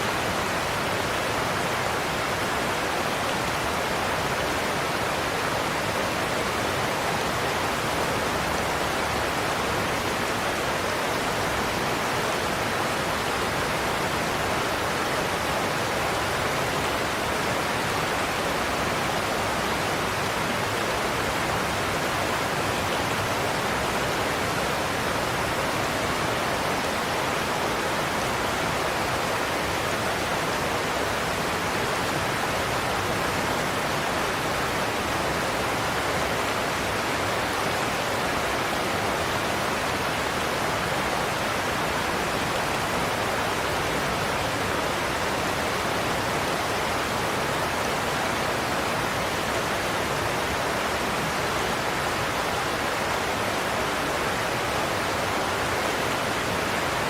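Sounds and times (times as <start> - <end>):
waterfall roar: 0.0 - 57.0.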